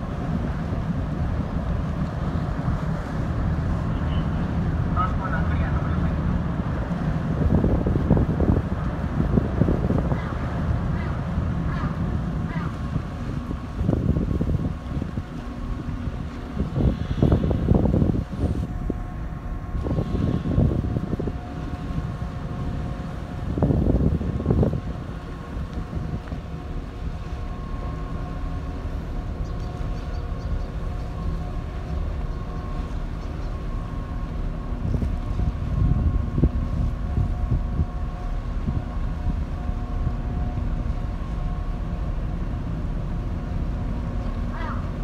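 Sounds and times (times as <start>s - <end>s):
ship machinery humming: 0.0s - 45.0s
wind buffeting microphone: 0.0s - 45.0s.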